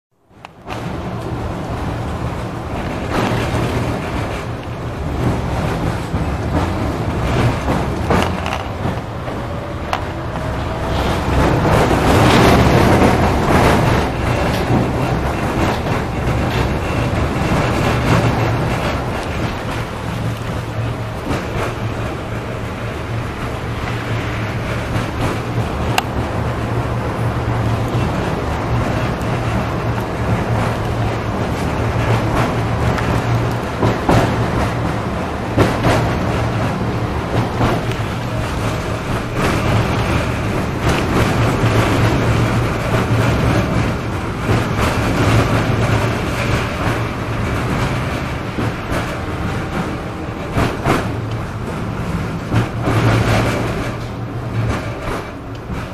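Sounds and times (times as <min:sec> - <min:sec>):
tram wheels on track: 0:00.2 - 0:55.9
clacks and knocks: 0:00.4 - 0:55.9.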